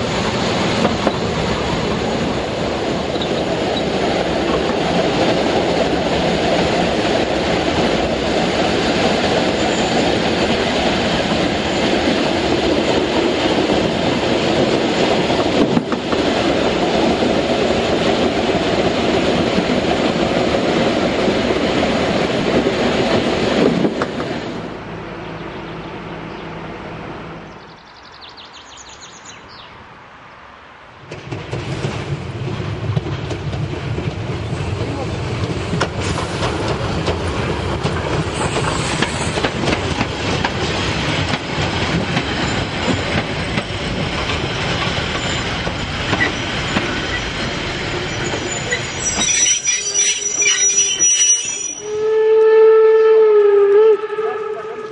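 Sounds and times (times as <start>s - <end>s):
steam locomotive low rumble: 0.0s - 28.5s, 31.0s - 54.9s
train rumble and rail clatter: 0.0s - 54.9s.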